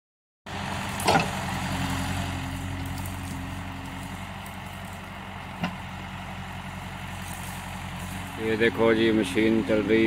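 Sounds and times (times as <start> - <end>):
diesel engine running at low revs: 0.5 - 10.0.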